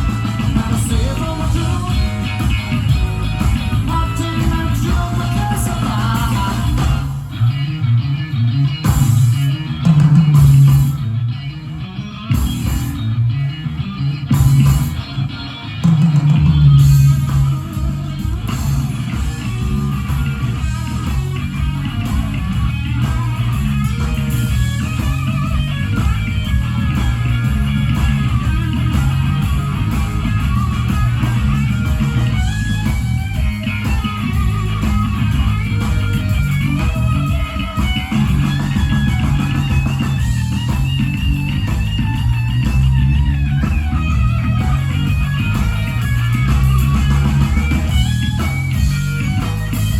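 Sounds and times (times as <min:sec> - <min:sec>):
blues-rock band playing live: 0:00.0 - 0:49.9
electric guitar: 0:00.0 - 0:49.9.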